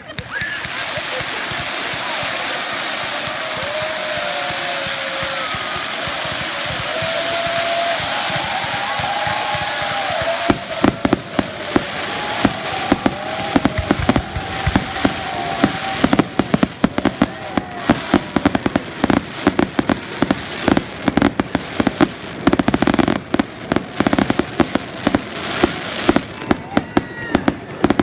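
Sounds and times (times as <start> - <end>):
fireworks bursting and crackling: 0.0 - 28.0.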